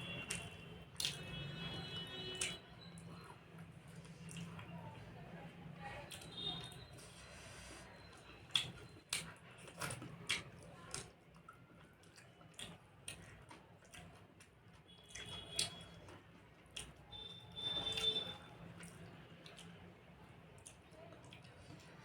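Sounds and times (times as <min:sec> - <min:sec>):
wet smacking and chewing: 0:00.0 - 0:04.8, 0:08.0 - 0:22.0.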